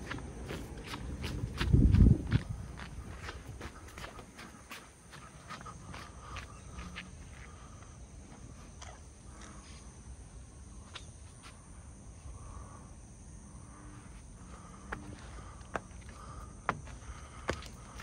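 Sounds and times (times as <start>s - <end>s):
insects humming: 0.0s - 18.0s.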